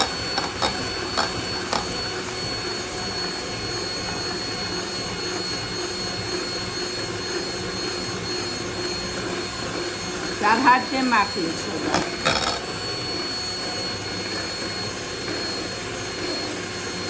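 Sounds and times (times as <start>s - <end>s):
electric hand mixer whirring: 0.0s - 17.0s.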